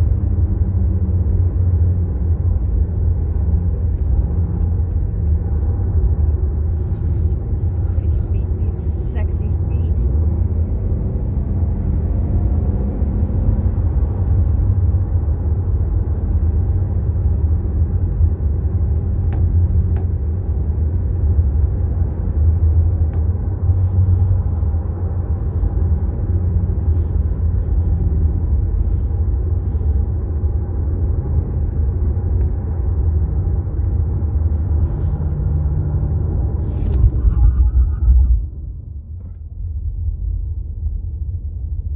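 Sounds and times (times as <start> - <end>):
engine and tyre rumble: 0.0 - 41.9.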